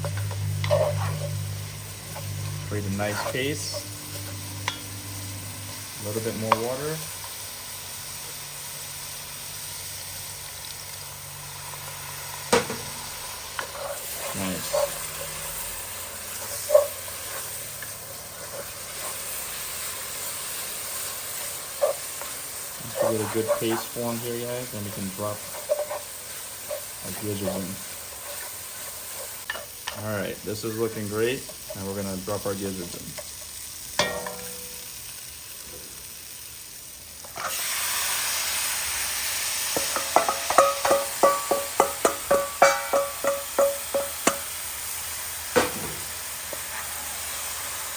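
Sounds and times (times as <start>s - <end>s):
curry paste sizzling in oil: 0.0s - 47.9s.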